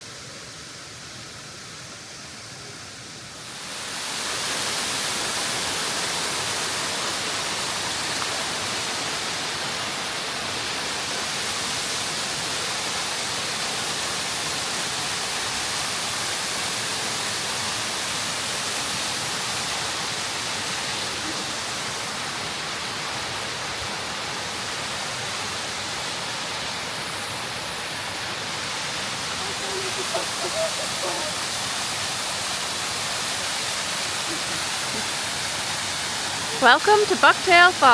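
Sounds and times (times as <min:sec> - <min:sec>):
waterfall roaring: 0:00.0 - 0:37.9.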